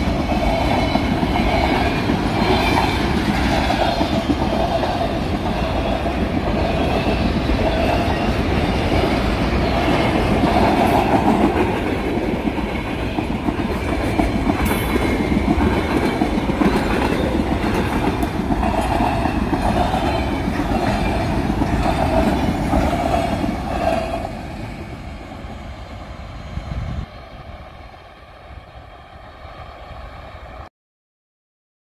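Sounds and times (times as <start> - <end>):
train wheels rumbling and clacking: 0.0 - 30.6.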